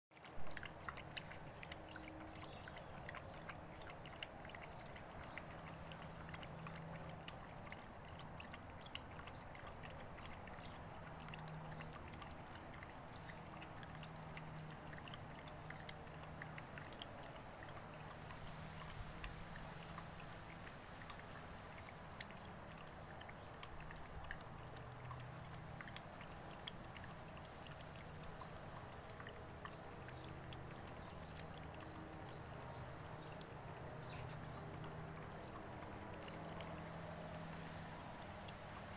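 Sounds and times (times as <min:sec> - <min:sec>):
dog lapping from a bowl: 0:00.2 - 0:38.4.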